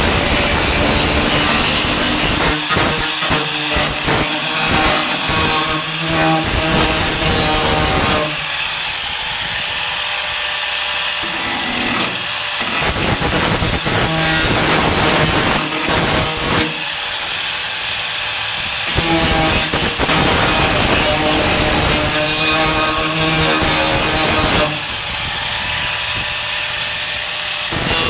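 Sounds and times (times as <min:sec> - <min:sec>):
angle grinder on sheet steel: 0:00.0 - 0:28.0.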